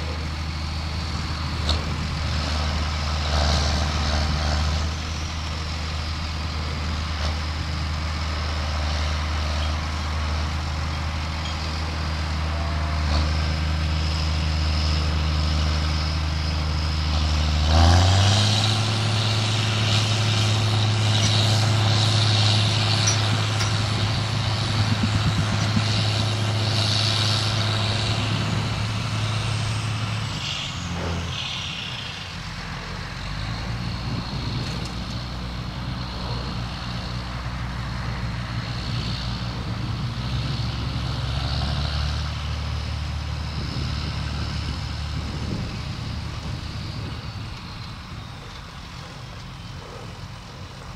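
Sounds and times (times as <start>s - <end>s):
diesel tractor engines revving: 0.0s - 50.9s.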